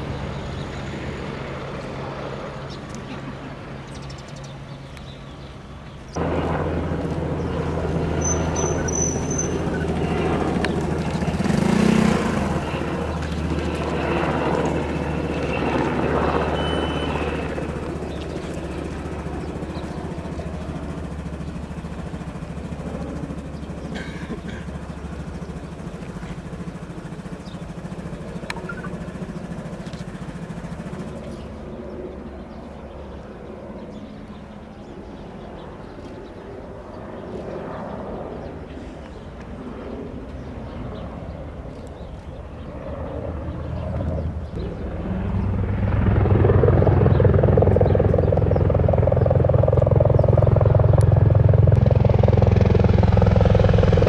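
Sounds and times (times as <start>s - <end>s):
helicopter rotors droning: 0.0s - 54.0s.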